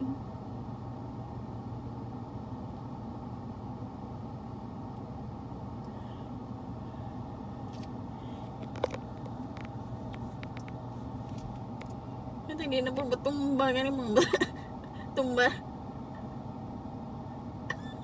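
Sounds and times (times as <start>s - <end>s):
low motor drone: 0.0s - 18.0s.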